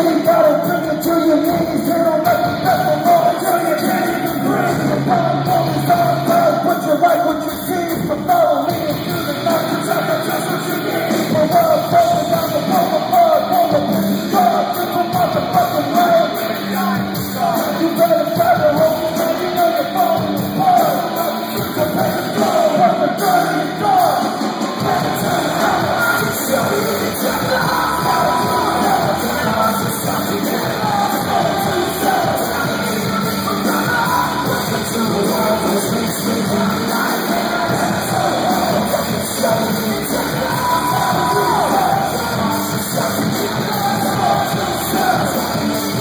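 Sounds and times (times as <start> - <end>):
rap-rock band playing live with vocals: 0.0 - 46.0.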